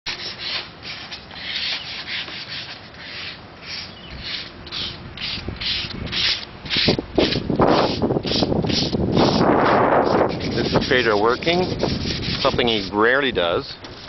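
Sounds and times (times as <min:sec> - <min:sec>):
hand sanding steel: 0:00.1 - 0:14.0.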